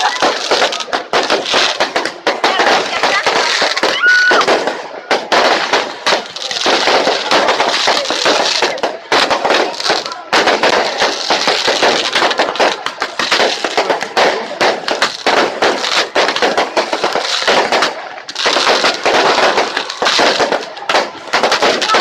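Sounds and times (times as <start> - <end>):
fireworks popping and banging: 0.0 - 22.0.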